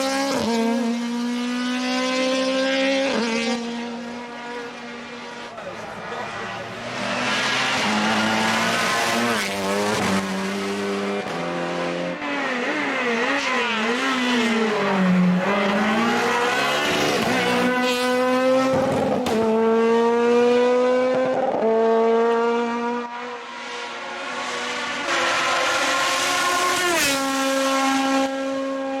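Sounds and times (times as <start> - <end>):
race car engine: 0.0 - 29.0.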